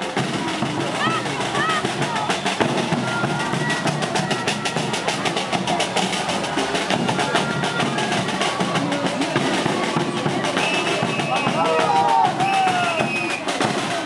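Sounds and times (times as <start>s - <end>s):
drums beaten in fast rhythm: 0.0s - 14.0s.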